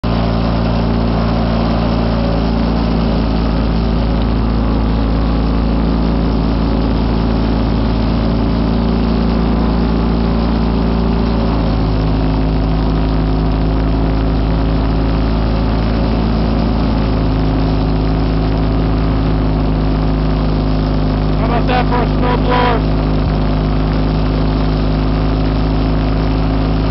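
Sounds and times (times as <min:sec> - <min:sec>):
tractor engine running under load: 0:00.0 - 0:26.9.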